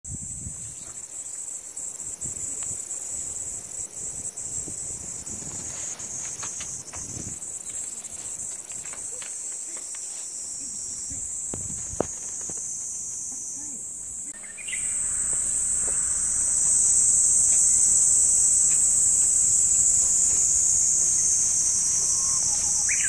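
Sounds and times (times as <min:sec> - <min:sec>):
insect chorus shrilling: 0:00.1 - 0:23.0.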